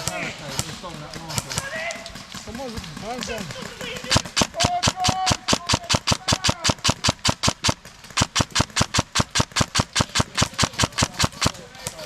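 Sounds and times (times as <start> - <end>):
airsoft gun firing full auto: 0.0 - 12.0.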